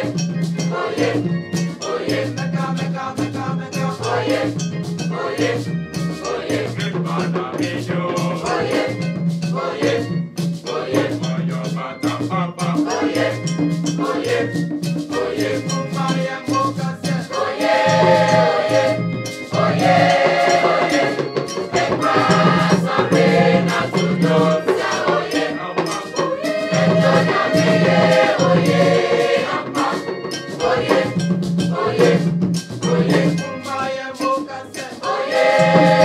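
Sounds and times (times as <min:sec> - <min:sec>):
choir singing: 0:00.0 - 0:36.0
percussion beat: 0:00.0 - 0:36.0.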